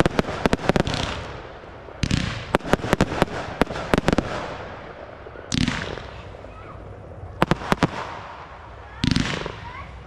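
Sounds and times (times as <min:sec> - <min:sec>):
firework cracks: 0:00.0 - 0:06.5, 0:07.4 - 0:10.0
fireworks launching rush: 0:00.0 - 0:06.5, 0:07.4 - 0:09.7.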